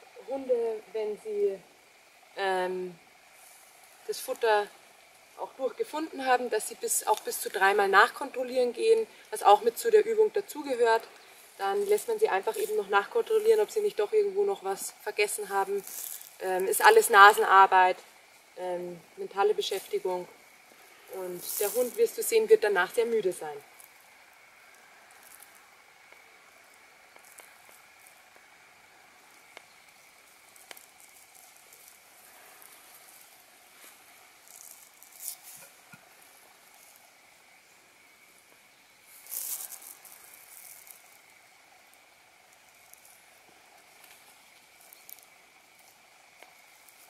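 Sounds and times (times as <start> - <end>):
faint steady hiss: 0.0 - 47.0
small crackles: 0.1 - 47.0.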